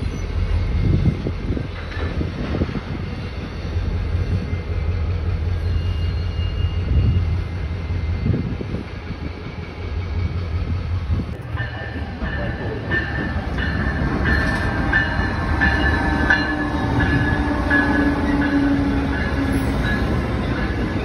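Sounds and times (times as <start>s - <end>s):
diesel locomotive engines rumbling: 0.0s - 21.0s.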